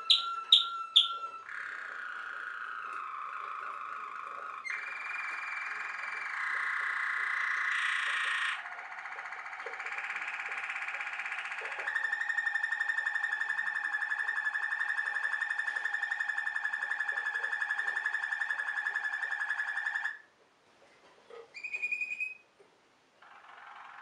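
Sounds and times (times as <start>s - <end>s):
canary singing rolling trill: 0.0s - 20.3s, 21.5s - 22.5s, 23.2s - 24.0s.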